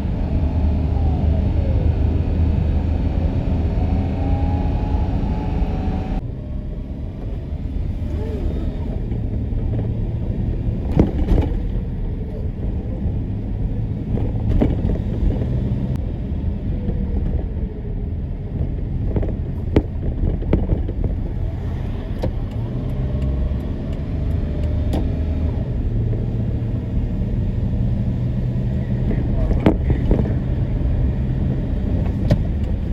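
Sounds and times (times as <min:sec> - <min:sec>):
road vehicle engine rumbling: 0:00.0 - 0:32.9.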